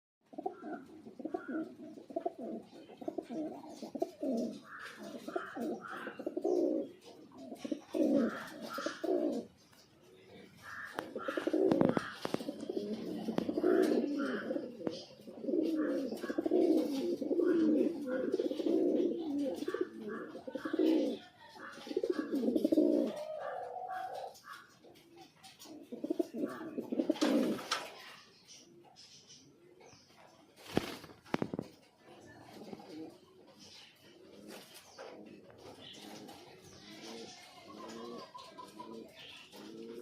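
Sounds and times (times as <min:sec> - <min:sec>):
pigeons cooing: 0:00.2 - 0:30.0, 0:30.7 - 0:40.0.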